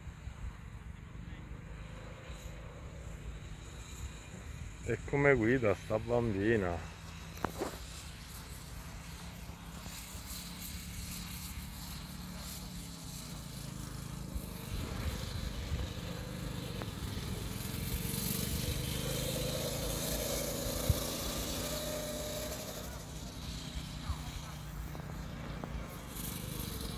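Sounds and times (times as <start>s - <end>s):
small vehicle motor running: 0.0s - 26.9s.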